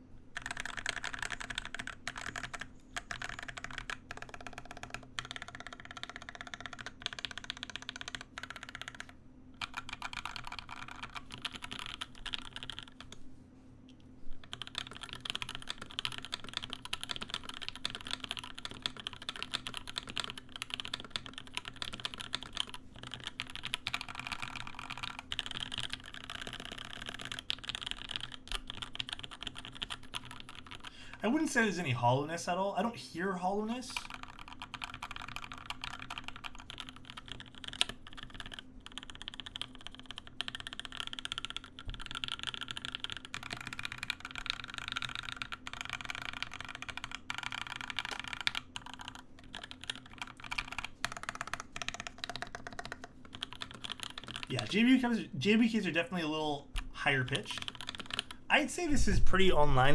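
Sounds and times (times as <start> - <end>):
fast mechanical keyboard typing: 0.4 - 13.2, 14.4 - 59.9.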